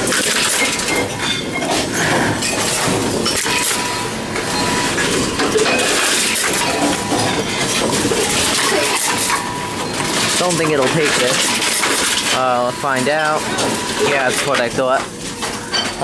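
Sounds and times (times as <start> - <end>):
containers clinking and crunching: 0.0 - 16.0.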